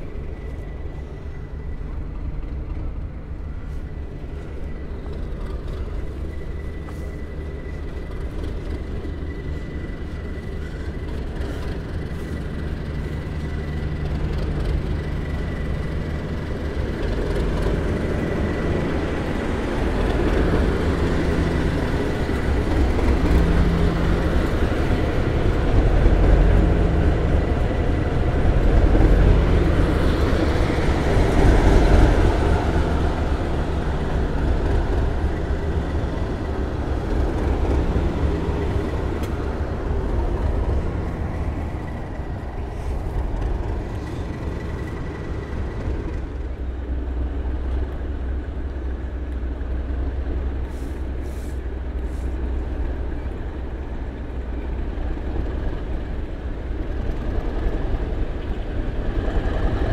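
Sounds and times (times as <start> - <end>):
diesel locomotive engines rumbling: 0.0 - 59.9.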